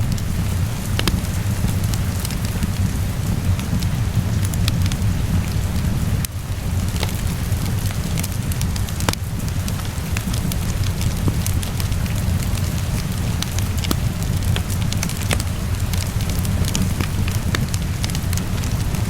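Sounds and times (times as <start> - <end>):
rain falling: 0.0 - 19.0
wood fire crackling and popping: 0.0 - 19.0.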